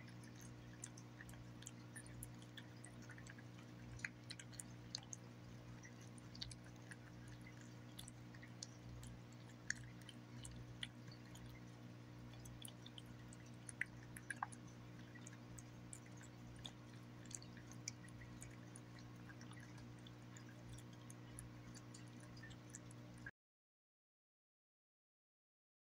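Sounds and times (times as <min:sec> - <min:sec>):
cat chewing and licking: 0:00.0 - 0:23.3
steady low hum: 0:00.0 - 0:23.3.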